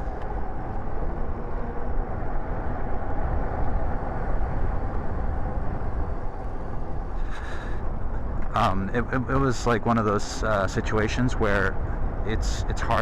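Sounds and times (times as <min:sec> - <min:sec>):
road noise: 0:00.0 - 0:13.0
wind rumble on microphone: 0:00.0 - 0:13.0.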